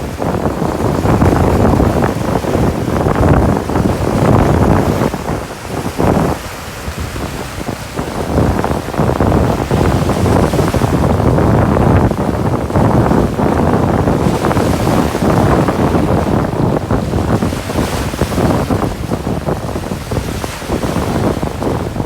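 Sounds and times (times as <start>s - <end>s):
ocean surf washing on beach: 0.0s - 22.0s
wind buffeting microphone: 0.0s - 22.0s.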